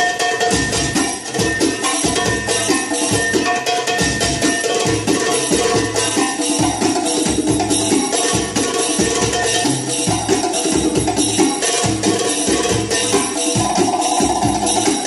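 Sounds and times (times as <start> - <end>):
fast drum rhythm: 0.0 - 15.0
tambourine jingling: 0.0 - 15.0.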